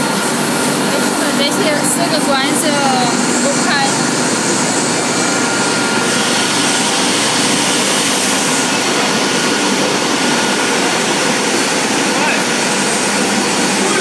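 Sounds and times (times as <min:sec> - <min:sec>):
air blowers and machinery rushing: 0:00.0 - 0:14.0
faint steady whine: 0:00.0 - 0:14.0.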